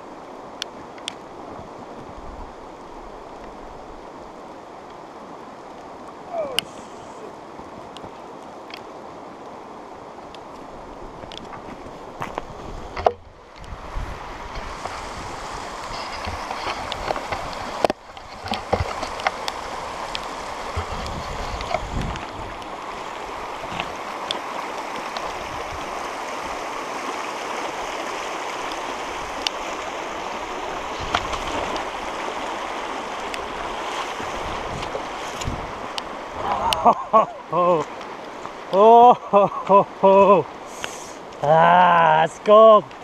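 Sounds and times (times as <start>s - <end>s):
rushing stream water: 0.0s - 43.0s.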